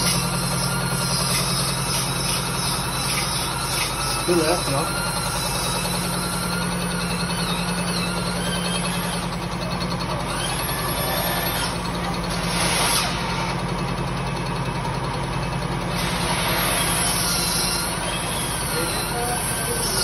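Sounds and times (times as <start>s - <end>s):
high whines shifting pitch: 0.0s - 13.6s, 15.9s - 20.0s
resurfacing machine humming: 0.0s - 20.0s.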